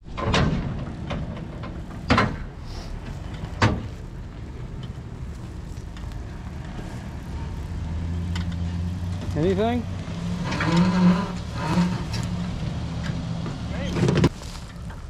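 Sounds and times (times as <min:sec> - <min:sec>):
vehicle engine idling: 0:00.6 - 0:15.0.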